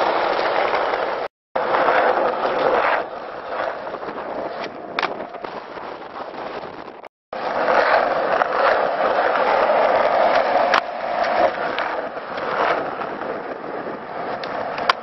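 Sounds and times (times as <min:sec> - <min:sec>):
skateboard clack: 0:00.0 - 0:15.0
skateboard wheels rolling on asphalt: 0:00.0 - 0:15.0.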